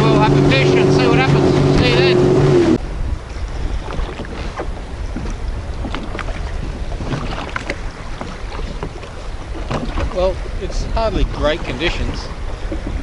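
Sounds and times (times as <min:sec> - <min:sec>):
water slapping against jet ski: 0:00.0 - 0:13.0
wind buffeting microphone: 0:00.0 - 0:13.0.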